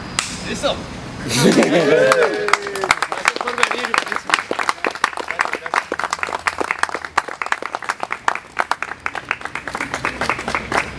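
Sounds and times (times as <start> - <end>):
small audience applauding: 1.5 - 10.9.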